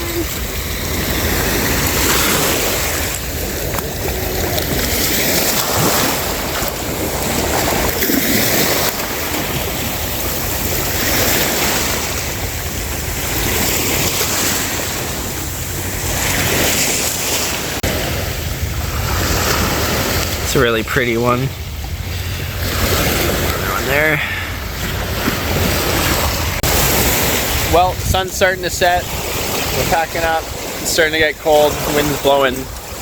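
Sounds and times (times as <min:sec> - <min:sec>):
ocean waves washing on shore: 0:00.0 - 0:33.0
wind buffeting microphone: 0:00.0 - 0:33.0.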